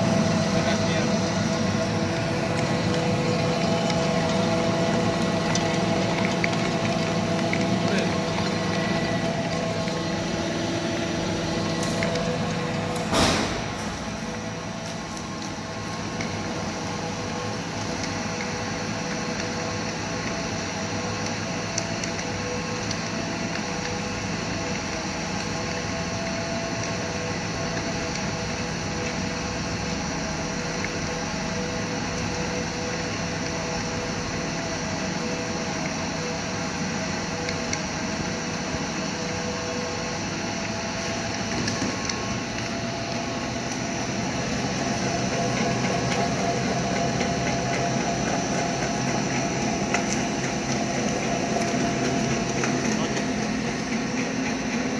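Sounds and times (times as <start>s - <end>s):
pellet mill humming: 0.0s - 54.9s.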